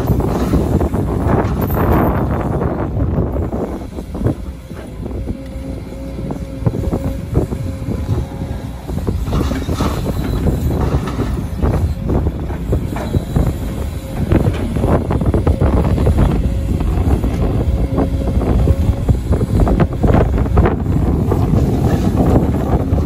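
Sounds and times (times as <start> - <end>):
excavator diesel engine: 0.0 - 23.0
hydraulic whine: 0.0 - 23.0.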